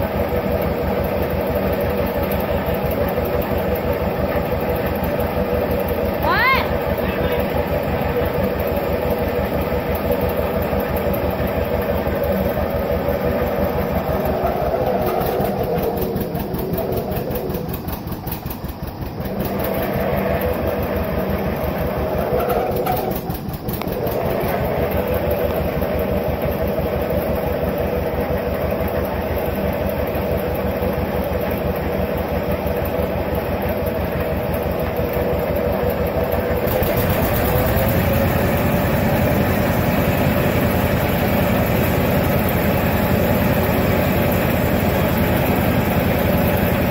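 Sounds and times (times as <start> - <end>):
tractor engine putting: 0.0 - 46.9.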